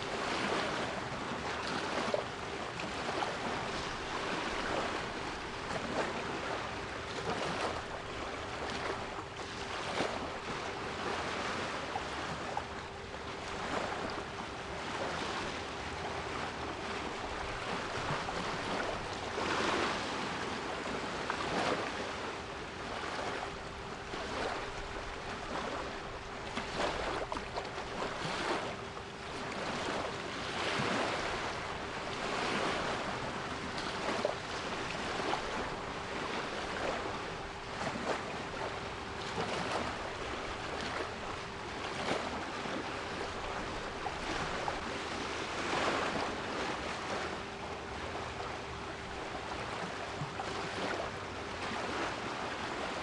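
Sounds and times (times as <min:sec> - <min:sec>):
sea waves breaking: 0:00.0 - 0:53.0.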